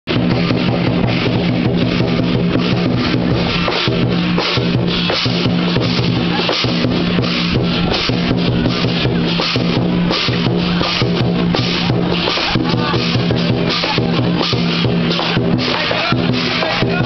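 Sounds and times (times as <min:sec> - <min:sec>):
crashing cymbals: 0:00.1 - 0:17.0
large drum beating rapidly: 0:00.1 - 0:17.0.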